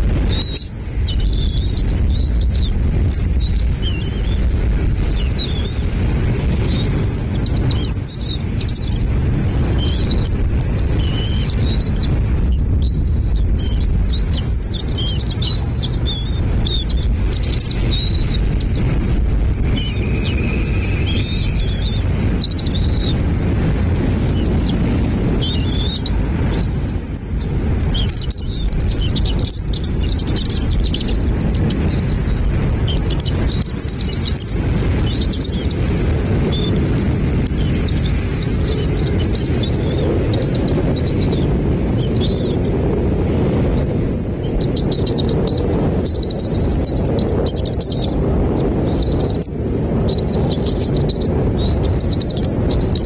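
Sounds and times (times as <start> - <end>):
small birds chirping: 0.0 - 53.0
steady low rumble: 0.0 - 53.0.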